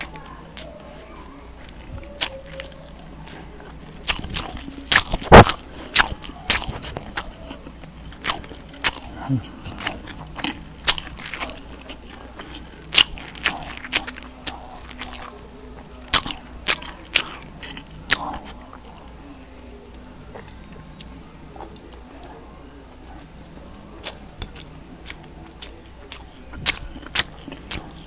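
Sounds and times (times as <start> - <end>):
person chewing: 0.0 - 22.4, 23.0 - 28.0.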